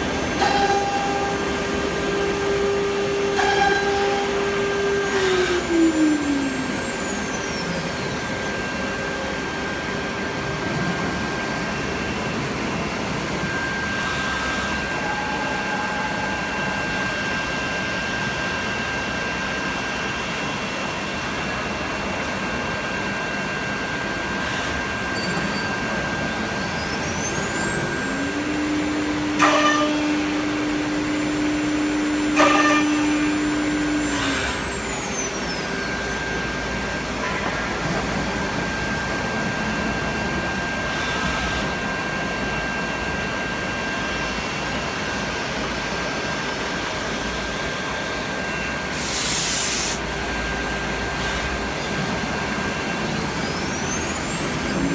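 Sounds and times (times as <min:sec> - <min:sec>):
machine whine: 0:00.0 - 0:54.9.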